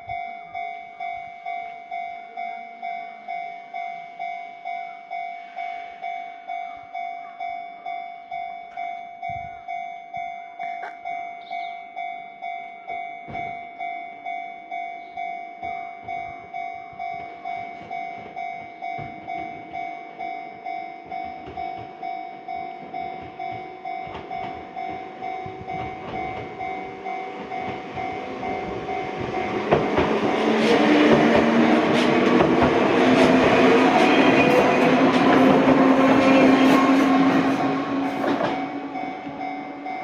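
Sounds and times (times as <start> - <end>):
level crossing warning bell: 0.0 - 40.0
train approaching: 0.0 - 40.0.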